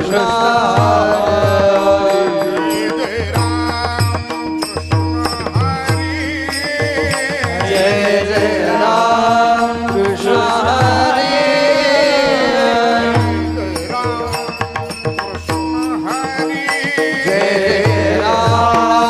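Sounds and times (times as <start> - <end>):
sliding devotional vocal line: 0.0 - 4.2, 5.5 - 14.8, 15.8 - 19.0.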